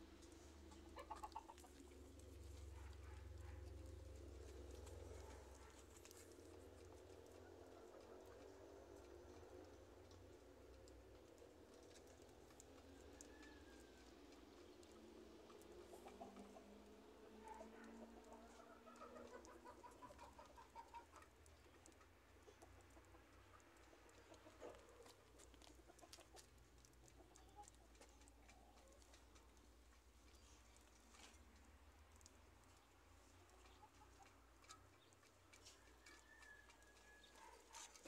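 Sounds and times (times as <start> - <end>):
chickens clucking: 0.0 - 31.6, 32.3 - 38.0
light ticks: 0.1 - 38.0.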